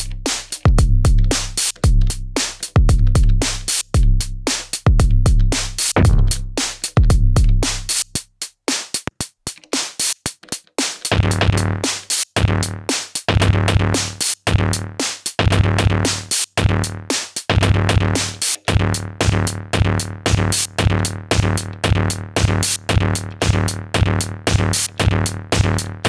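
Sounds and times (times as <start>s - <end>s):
deep kick and bass pulses: 0.0s - 8.1s, 11.1s - 11.8s, 12.4s - 16.0s, 16.6s - 26.0s
crisp hi-hat hits: 0.0s - 26.0s
electronic drum beat: 0.0s - 26.0s.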